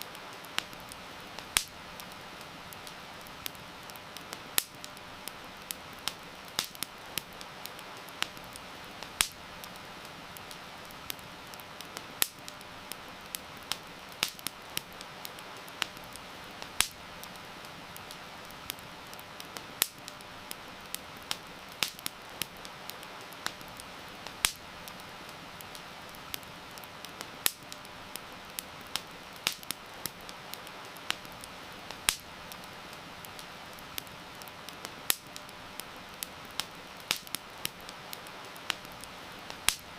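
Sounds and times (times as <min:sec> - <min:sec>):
rain hissing: 0:00.0 - 0:39.9
wood fire crackling and popping: 0:00.0 - 0:39.9.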